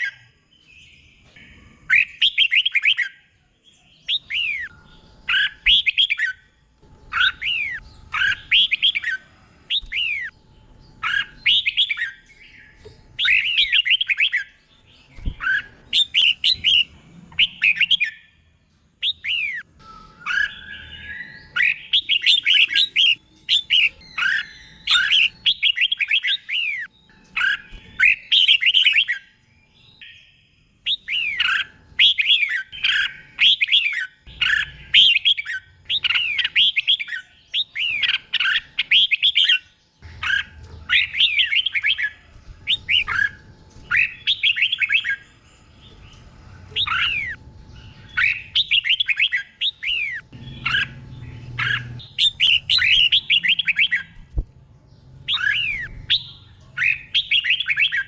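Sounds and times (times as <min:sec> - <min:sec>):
bird singing whistled notes: 0:00.0 - 0:10.4, 0:11.0 - 0:18.4, 0:19.0 - 0:54.4, 0:55.2 - 0:58.0.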